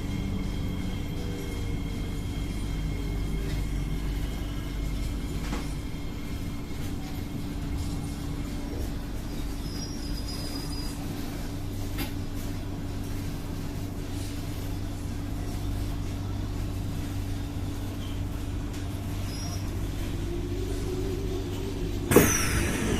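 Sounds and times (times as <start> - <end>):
train humming at station: 0.0 - 22.9.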